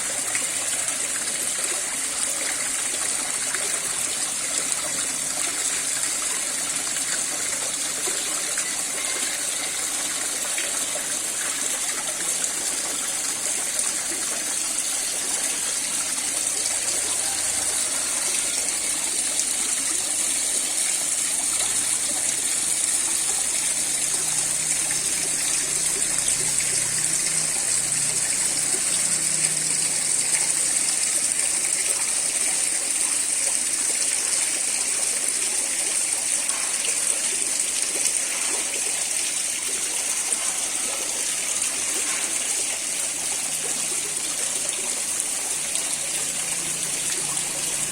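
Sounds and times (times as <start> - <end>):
water rushing down waterfall: 0.0 - 47.9.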